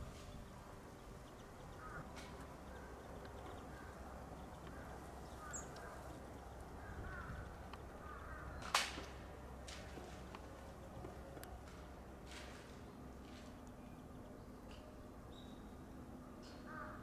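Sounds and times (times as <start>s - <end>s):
distant birds calling: 0.0s - 17.0s.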